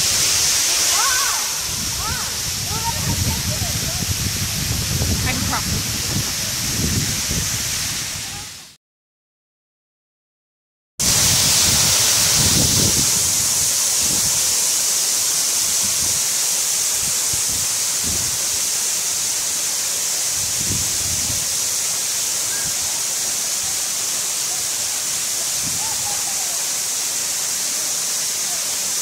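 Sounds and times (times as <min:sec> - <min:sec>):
waterfall rushing: 0:00.0 - 0:08.8, 0:11.0 - 0:29.0.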